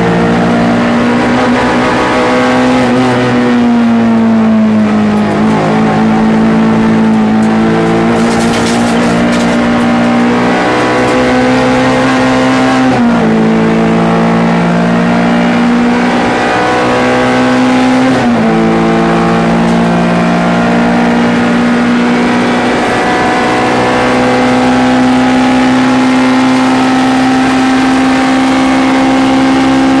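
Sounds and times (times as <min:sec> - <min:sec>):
race car engine pulling hard: 0:00.0 - 0:30.0.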